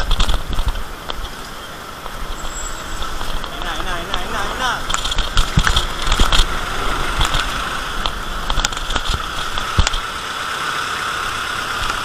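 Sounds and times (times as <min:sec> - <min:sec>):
city traffic: 0:00.0 - 0:12.0.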